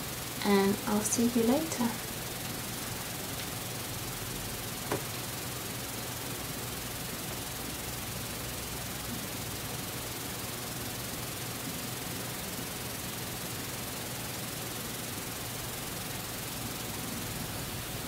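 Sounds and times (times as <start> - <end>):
steady hiss of recording noise: 0.0 - 18.0.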